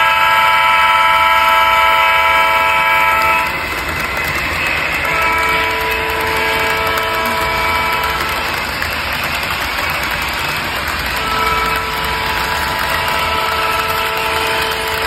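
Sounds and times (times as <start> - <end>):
model train horn blasts: 0.0 - 8.9, 9.6 - 15.0.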